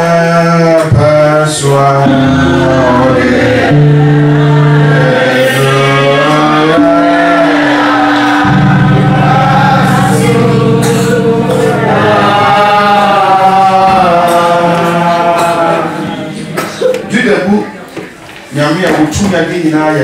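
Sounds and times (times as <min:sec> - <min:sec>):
gospel singing: 0:00.0 - 0:17.2
held accompaniment chords: 0:01.9 - 0:18.2.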